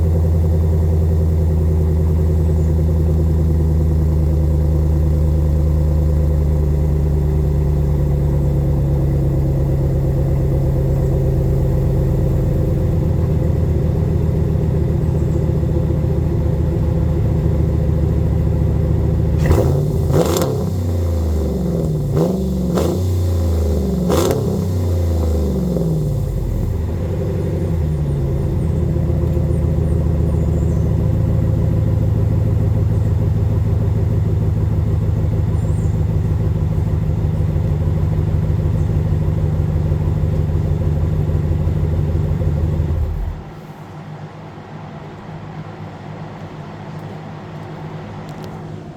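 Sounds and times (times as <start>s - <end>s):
exhaust cracks: 0.0s - 43.7s
car engine idling and revving: 0.0s - 48.9s.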